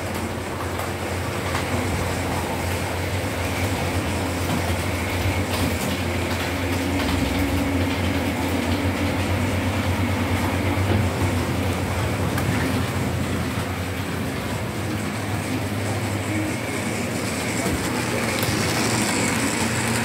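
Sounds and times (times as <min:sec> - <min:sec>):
model train hum: 0:00.0 - 0:20.0
wheels clicking on track: 0:00.0 - 0:20.0.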